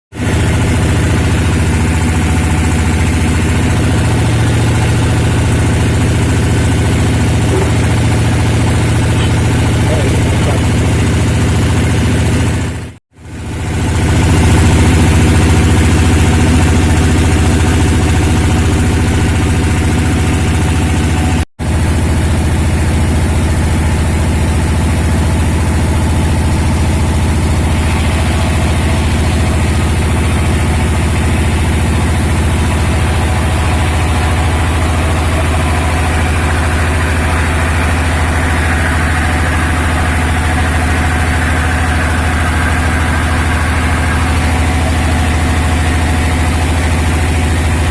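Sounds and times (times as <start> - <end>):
sawmill machinery humming: 0.2 - 47.9.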